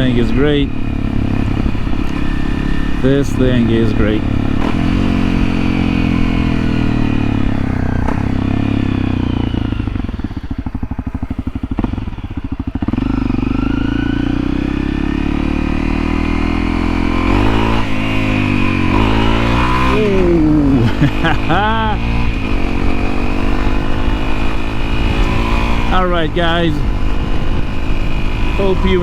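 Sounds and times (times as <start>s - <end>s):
gear changes: 0.0s - 29.0s
motorcycle engine running: 0.0s - 29.0s.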